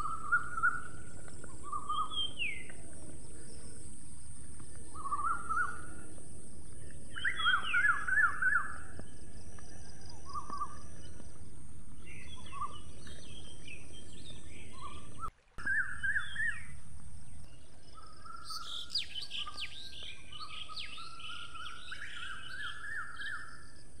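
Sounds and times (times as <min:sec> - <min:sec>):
birds chirping and trilling: 0:00.0 - 0:24.0
outdoor background hiss: 0:00.0 - 0:24.0.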